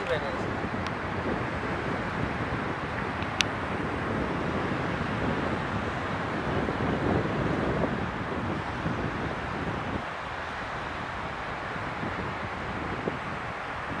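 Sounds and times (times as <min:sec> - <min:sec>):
surf washing on sandy beach: 0:00.0 - 0:14.0
wind on microphone: 0:00.0 - 0:14.0.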